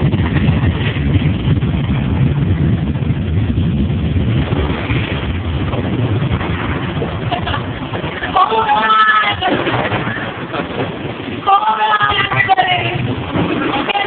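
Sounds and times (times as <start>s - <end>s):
low rumble: 0.0s - 14.0s
noisy hiss: 0.0s - 14.0s.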